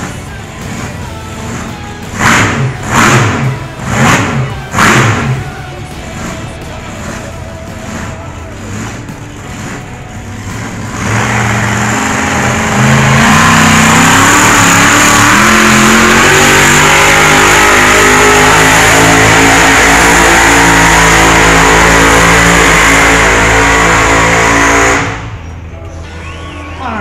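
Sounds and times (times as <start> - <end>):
pulling vehicle engine revving: 0.0 - 25.6.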